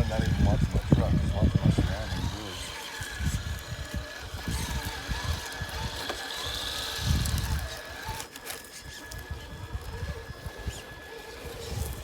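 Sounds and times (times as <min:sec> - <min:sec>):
toy car motor whining: 0:00.0 - 0:12.0.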